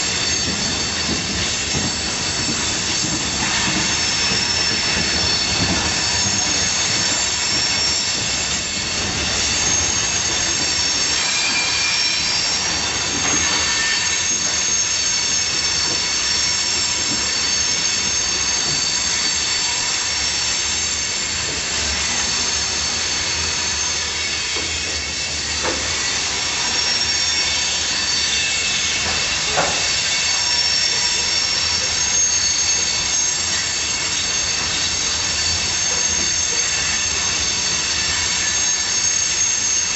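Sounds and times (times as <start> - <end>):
train wheels screeching: 0.0 - 39.9.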